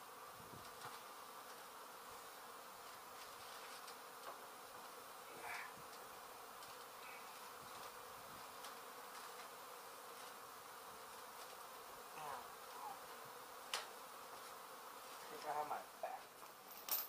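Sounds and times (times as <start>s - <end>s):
bees buzzing: 0.0s - 16.7s.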